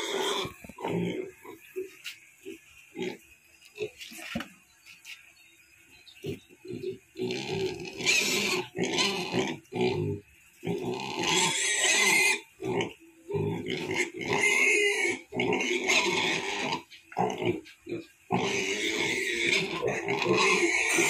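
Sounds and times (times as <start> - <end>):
pigs squealing and grunting: 0.0 - 3.2, 6.2 - 21.0.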